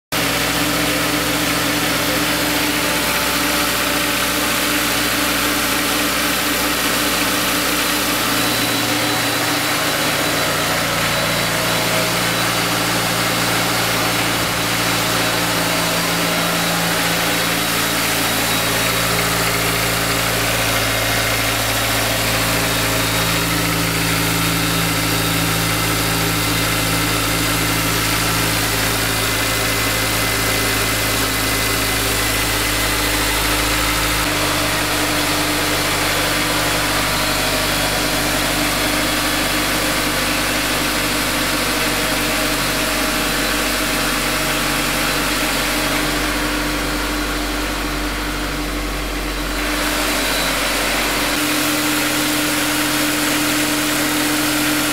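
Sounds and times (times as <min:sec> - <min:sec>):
car engine idling: 0:00.1 - 0:54.9.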